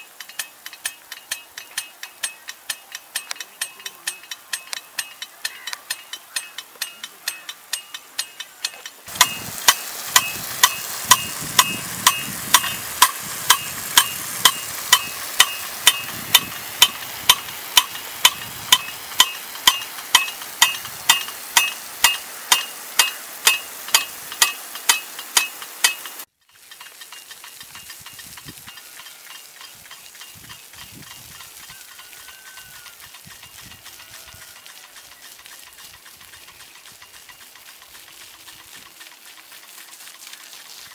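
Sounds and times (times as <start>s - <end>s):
sprinkler arm clacking: 0.0s - 40.9s
water jet hissing: 0.0s - 40.9s.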